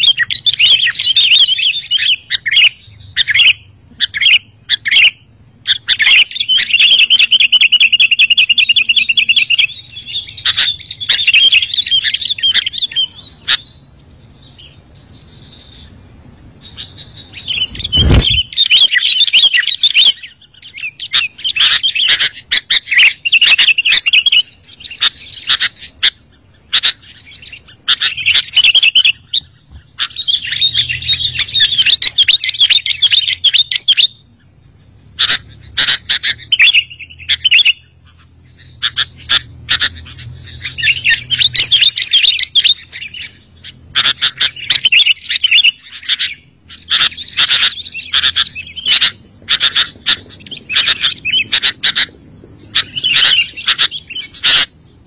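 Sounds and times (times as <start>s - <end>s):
bird singing chattering phrases: 0.0s - 55.0s.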